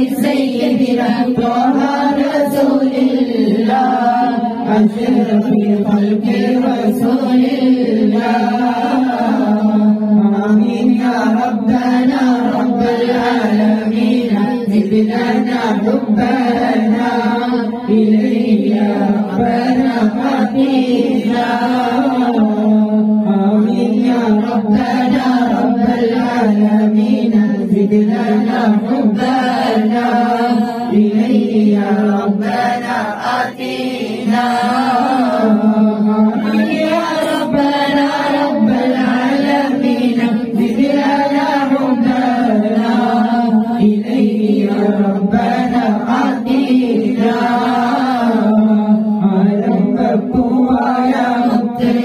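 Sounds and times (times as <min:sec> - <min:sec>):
men chanting into microphone: 0:00.0 - 0:52.0.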